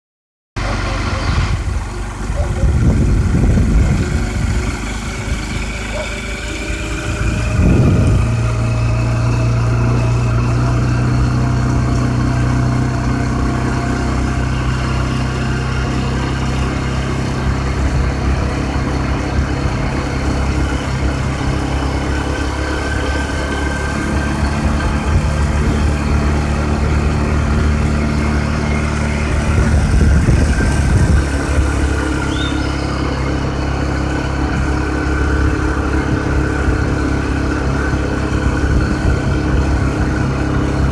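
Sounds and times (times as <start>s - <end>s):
low engine rumbles: 0.6s - 40.9s
vehicle engine running: 0.6s - 40.9s.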